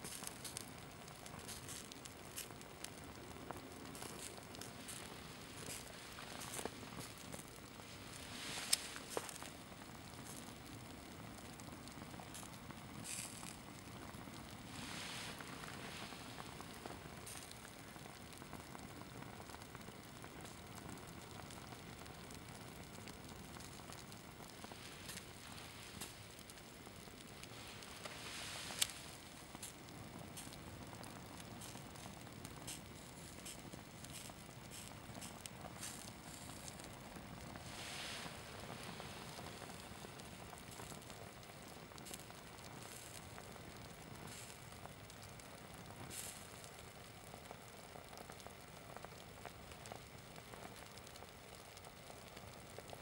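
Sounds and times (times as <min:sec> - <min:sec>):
small flames crackling: 0:00.0 - 0:53.0
soft hiss: 0:00.0 - 0:53.0.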